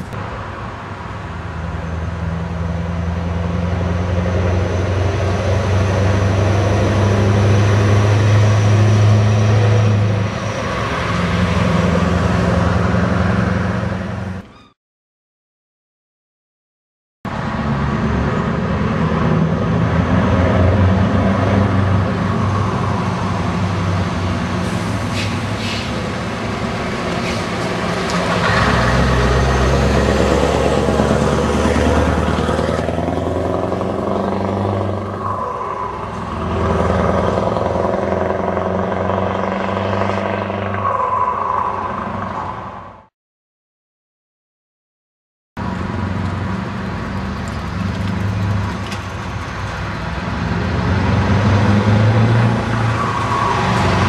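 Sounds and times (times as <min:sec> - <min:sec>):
diesel truck driving by: 0:00.0 - 0:14.7, 0:17.3 - 0:43.1, 0:45.6 - 0:54.0.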